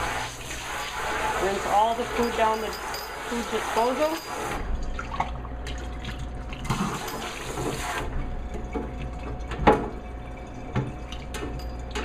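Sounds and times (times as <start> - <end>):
faucet water splashing into sink: 0.0 - 12.0.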